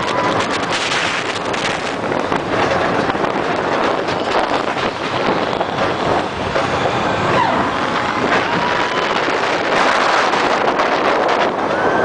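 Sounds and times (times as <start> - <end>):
roller coaster wheels rumbling: 0.0 - 12.0
wind rushing over microphone: 0.0 - 12.0.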